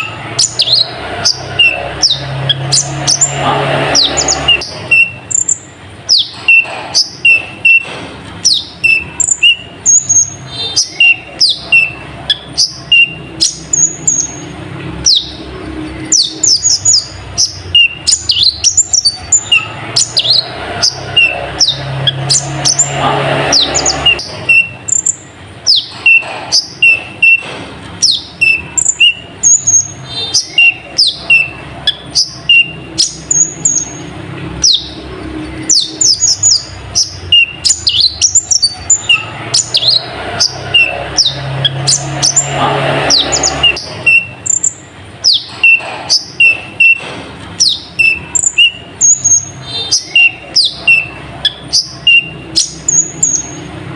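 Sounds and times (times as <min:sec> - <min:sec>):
bird singing high sharp chirps: 0:00.0 - 0:47.0, 0:47.6 - 0:53.8.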